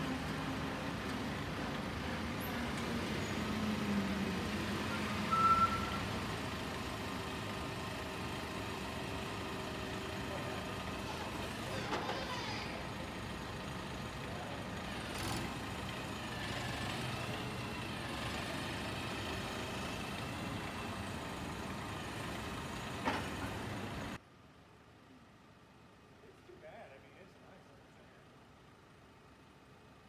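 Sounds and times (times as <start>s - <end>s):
diesel engine running: 0.0s - 24.2s.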